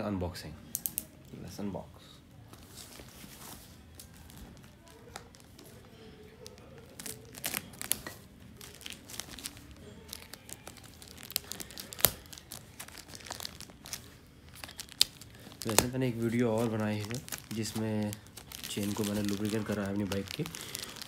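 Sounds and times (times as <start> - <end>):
plastic wrapping crinkling: 2.6 - 21.0.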